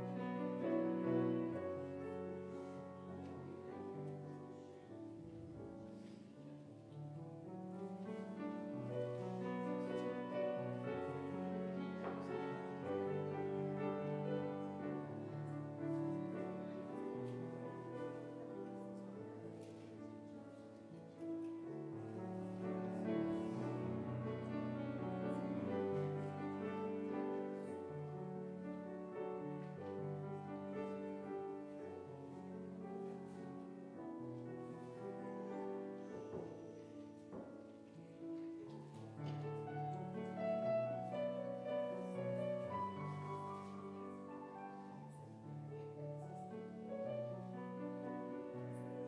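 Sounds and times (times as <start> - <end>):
grand piano chords: 0.0 - 49.0.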